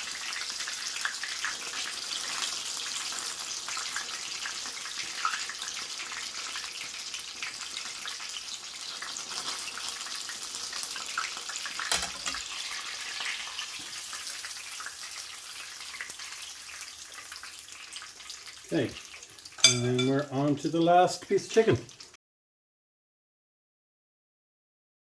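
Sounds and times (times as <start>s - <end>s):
chicken sizzling in a frying pan: 0.0s - 22.2s.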